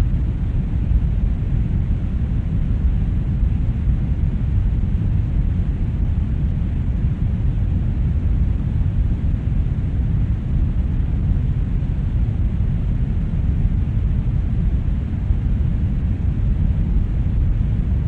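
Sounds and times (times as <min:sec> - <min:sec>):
brown noise: 0:00.0 - 0:18.0.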